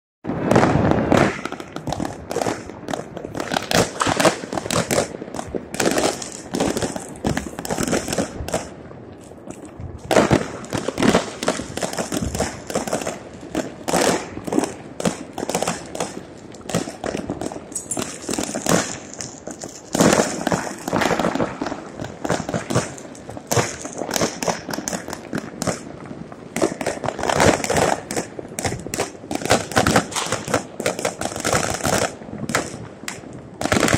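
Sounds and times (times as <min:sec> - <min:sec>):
fireworks bangs and crackling: 0:00.2 - 0:33.9.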